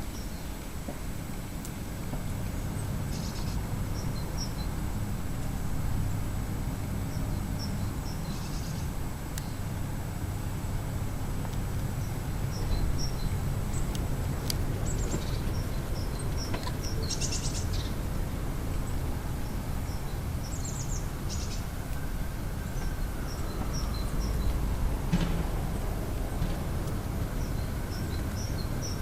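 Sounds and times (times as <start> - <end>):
steady low rumble: 0.0 - 29.0
small birds chirping: 2.6 - 29.0.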